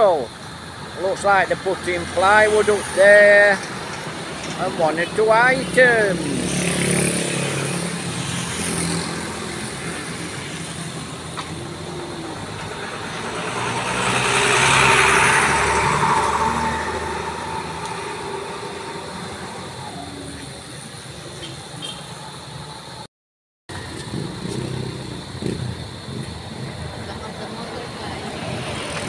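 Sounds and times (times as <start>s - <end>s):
traffic engines humming: 0.0s - 23.1s, 23.7s - 29.0s
vehicle passing close by: 1.3s - 21.1s, 23.8s - 29.0s.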